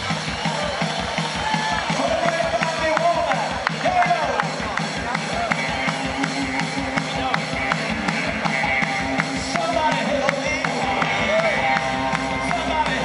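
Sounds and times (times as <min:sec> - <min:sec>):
drum beat: 0:00.0 - 0:13.0
electric guitar: 0:00.0 - 0:13.0.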